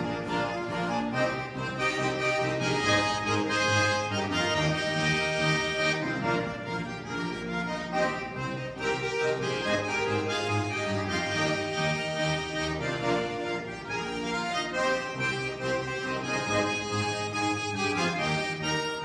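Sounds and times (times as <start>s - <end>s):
button accordions playing folk music: 0.0s - 19.0s.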